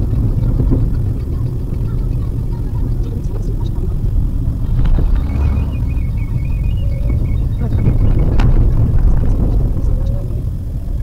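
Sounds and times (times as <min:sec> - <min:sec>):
road and engine rumble in car: 0:00.0 - 0:11.0.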